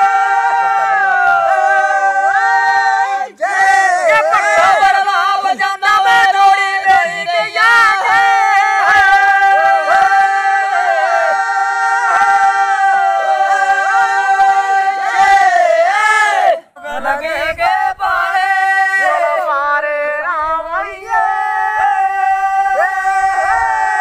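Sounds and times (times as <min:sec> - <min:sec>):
group folk singing: 0:00.0 - 0:24.0.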